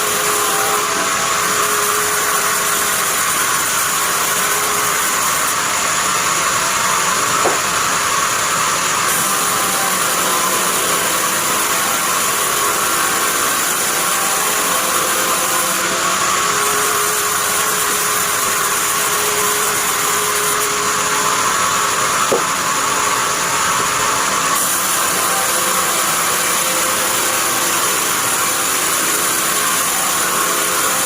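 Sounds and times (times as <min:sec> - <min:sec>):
bandsaw machine running: 0:00.0 - 0:31.0.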